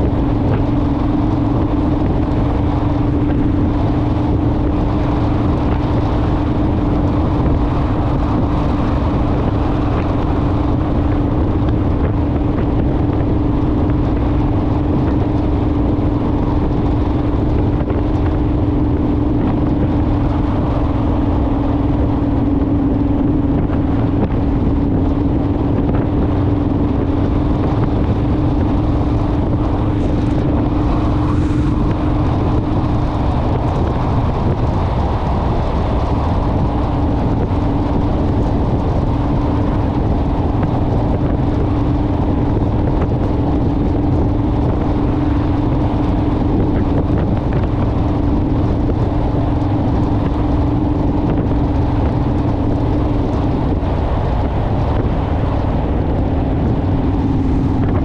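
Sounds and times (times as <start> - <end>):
heavy wind: 0.0 - 58.0
motorcycle engine cruising: 0.0 - 58.0
road rumble: 0.0 - 58.0.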